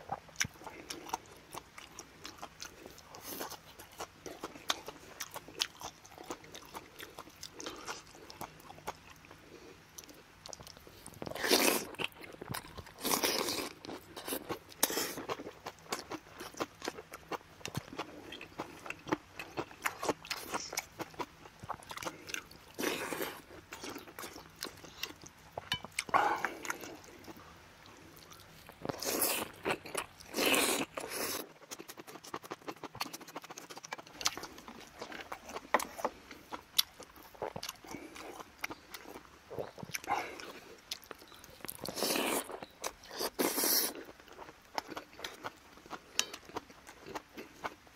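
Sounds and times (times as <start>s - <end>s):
chewing and wet mouth noises: 0.0s - 47.9s.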